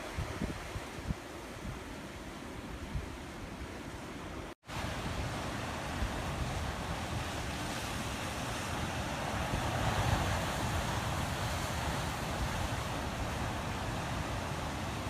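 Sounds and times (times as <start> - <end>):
rushing outdoor nature ambience: 0.0 - 15.0.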